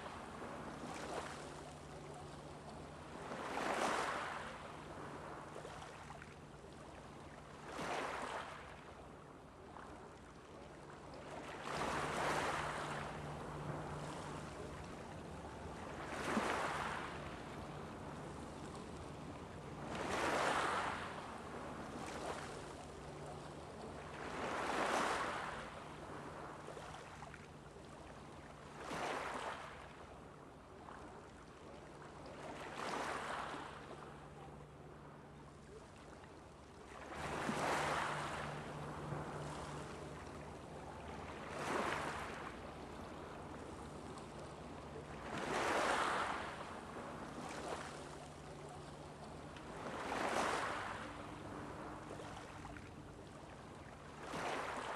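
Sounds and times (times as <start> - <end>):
faint low hum: 0.0 - 3.5, 8.8 - 28.9, 33.5 - 54.9
small waves breaking on shore: 0.0 - 54.9.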